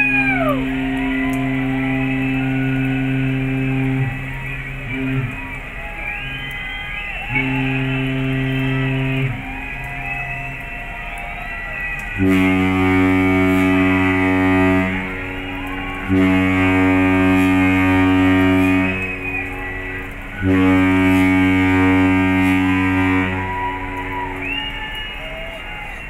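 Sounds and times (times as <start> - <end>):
deep ship horn blasts: 0.0 - 26.0.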